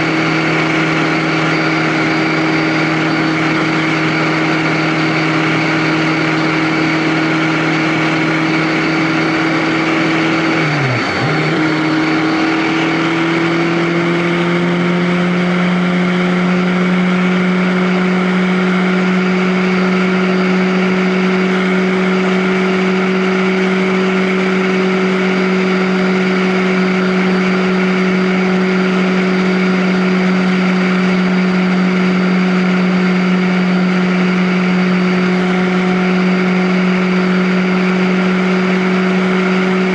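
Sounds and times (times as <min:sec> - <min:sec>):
vehicle engine cruising: 0:00.0 - 0:39.9.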